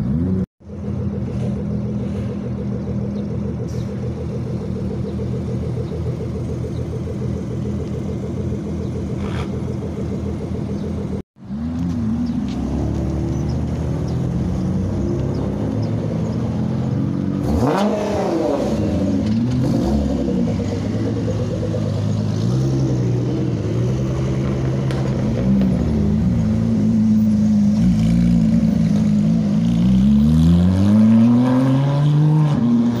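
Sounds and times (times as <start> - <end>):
sports car engines revving: 0.0 - 33.0.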